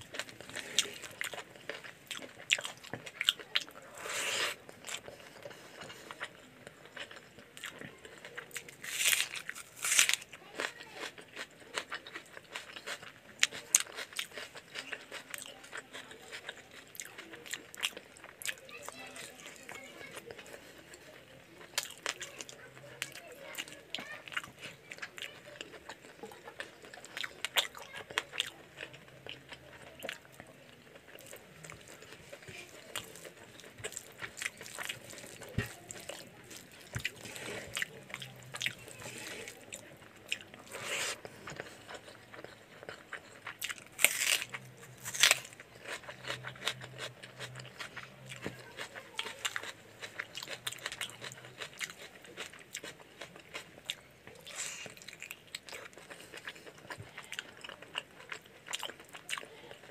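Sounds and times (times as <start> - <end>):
man chewing and eating: 0.0 - 59.9.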